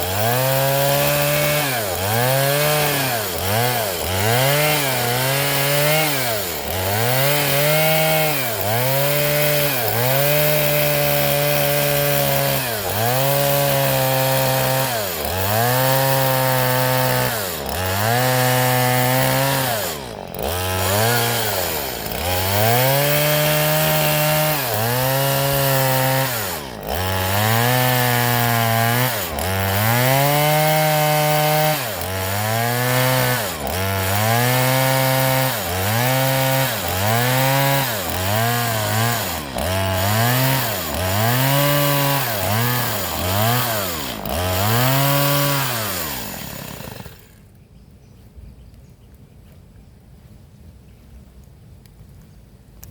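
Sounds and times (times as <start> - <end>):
chainsaw sawing wood: 0.0 - 47.6.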